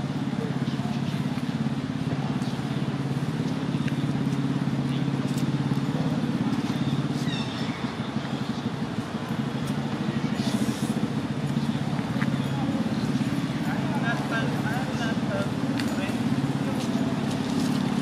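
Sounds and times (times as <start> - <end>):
engine low pulsing drone: 0.0 - 18.0.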